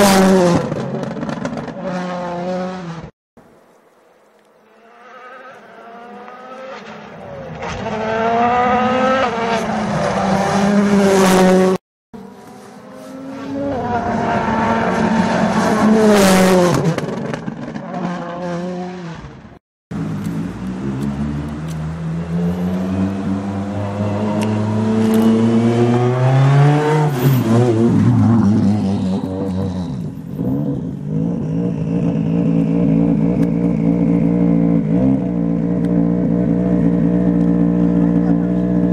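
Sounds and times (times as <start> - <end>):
rally car engine revving: 4.8 - 19.4, 20.0 - 38.9.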